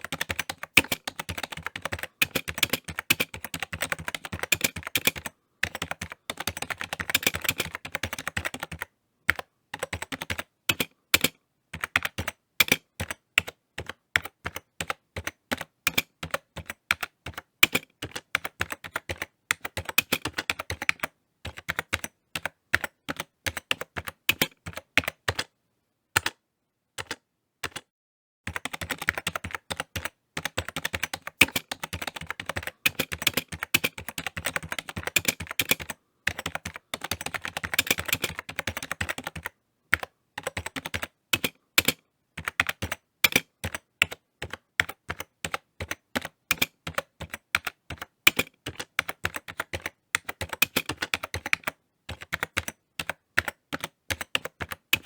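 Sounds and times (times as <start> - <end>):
typing on computer keyboard: 0.0 - 25.5, 26.2 - 26.4, 27.0 - 27.9, 28.5 - 55.0.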